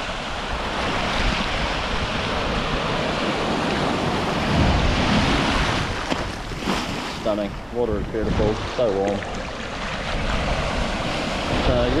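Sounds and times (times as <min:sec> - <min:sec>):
ocean surf on beach: 0:00.0 - 0:12.0
wind buffeting microphone: 0:00.0 - 0:12.0.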